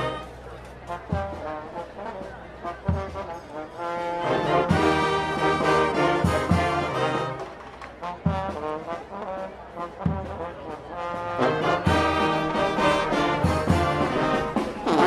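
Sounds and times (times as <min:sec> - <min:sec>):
brass marching band playing: 0:00.0 - 0:15.0.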